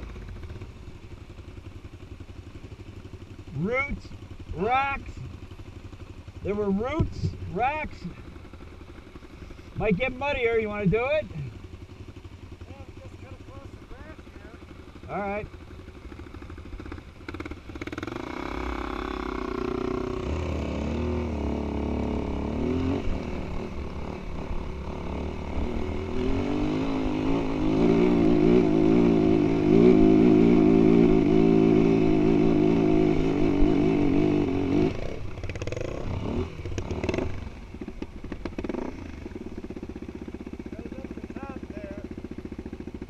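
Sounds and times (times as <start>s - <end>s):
dirt bike engine revving: 2.6s - 43.0s.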